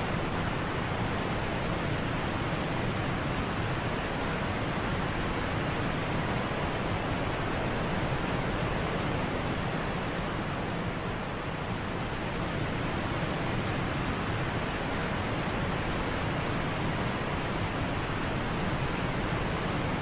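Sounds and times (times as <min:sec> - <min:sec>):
waterfall roar: 0:00.0 - 0:20.0.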